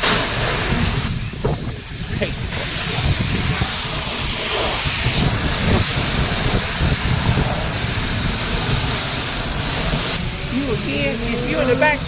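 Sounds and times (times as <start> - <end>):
high-pressure water spray hissing: 0.0 - 12.0
low rumble: 0.2 - 12.0.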